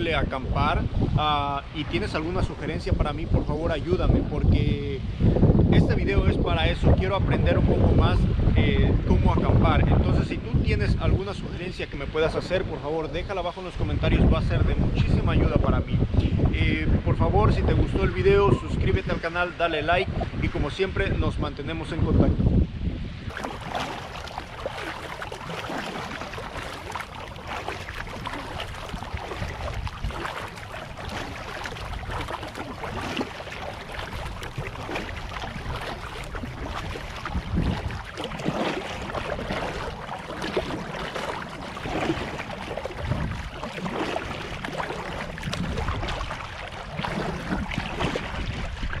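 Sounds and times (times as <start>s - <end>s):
water splashing around kayak: 0.0s - 17.0s, 17.6s - 21.1s, 22.7s - 49.0s.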